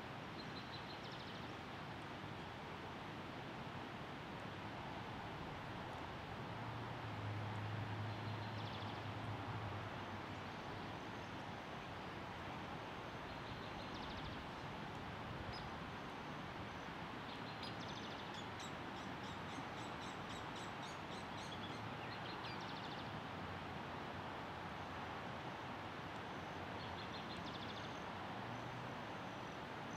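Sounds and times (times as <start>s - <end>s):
outdoor background noise: 0.0s - 29.9s.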